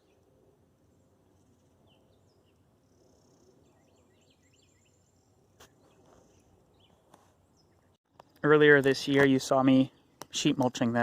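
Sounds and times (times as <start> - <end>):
faint birds chirping: 0.0 - 10.8.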